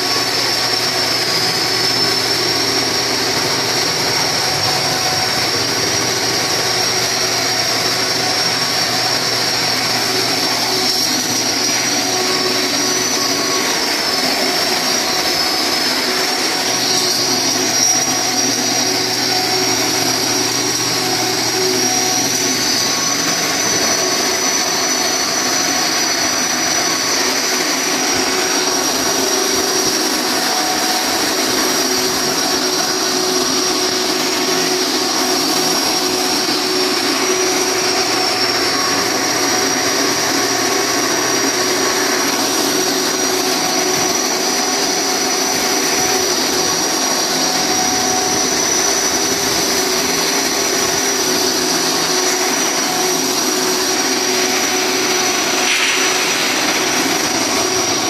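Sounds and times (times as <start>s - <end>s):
high-pitched machine whine: 0.0s - 58.0s
industrial machine whirring: 0.0s - 58.0s.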